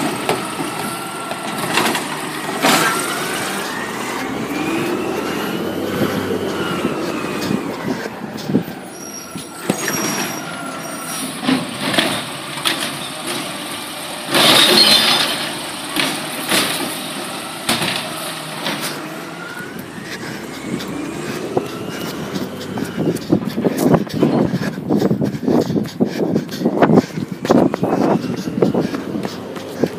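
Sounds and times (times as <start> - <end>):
garbage truck engine revving: 0.0 - 24.4, 26.9 - 29.9.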